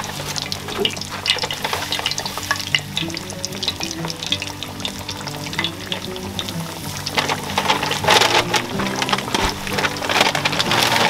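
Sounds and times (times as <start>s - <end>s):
fish deep-frying in hot oil: 0.0s - 11.0s.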